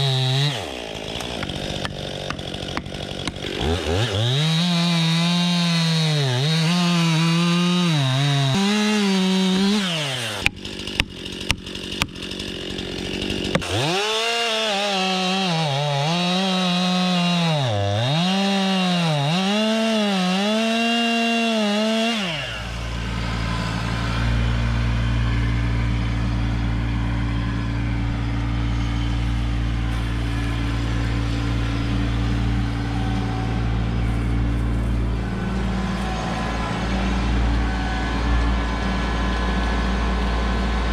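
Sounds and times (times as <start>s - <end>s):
chainsaw cutting wood: 0.0s - 40.9s
tractor diesel engine droning: 0.0s - 40.9s.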